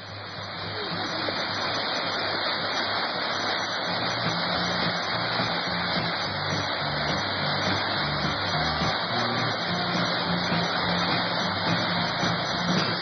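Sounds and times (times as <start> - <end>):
river rapids roaring: 0.0 - 13.0.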